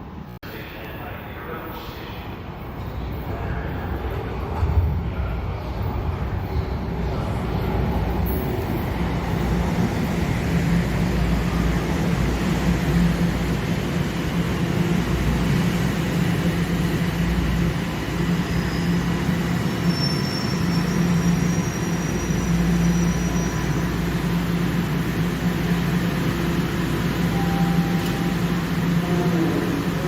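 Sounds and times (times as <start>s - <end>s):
subway train rumble and hum: 0.0s - 30.0s.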